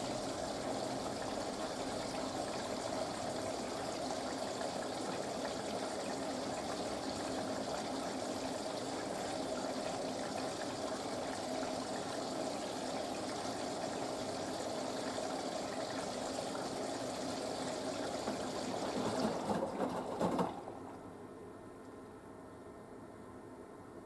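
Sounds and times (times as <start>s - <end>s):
water running in washing machine: 0.0s - 21.2s.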